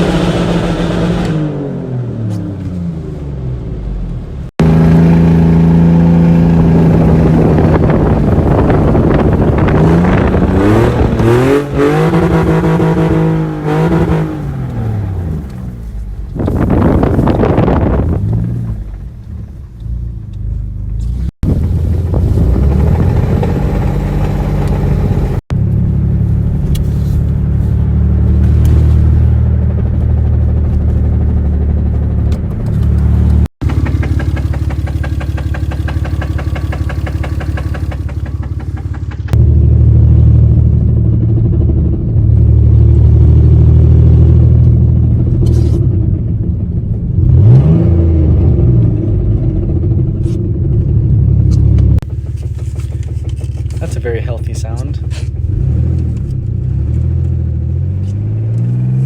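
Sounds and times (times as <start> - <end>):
car engine revving with loud exhaust: 0.0 - 59.0.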